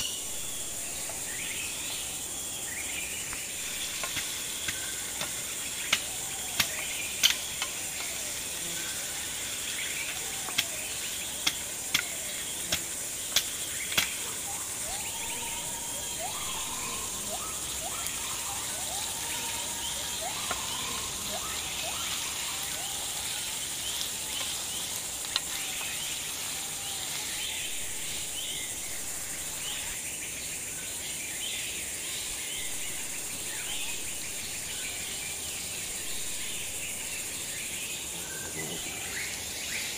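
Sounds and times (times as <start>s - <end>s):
birds chirping: 0.0s - 39.9s
insect drone: 0.0s - 39.9s.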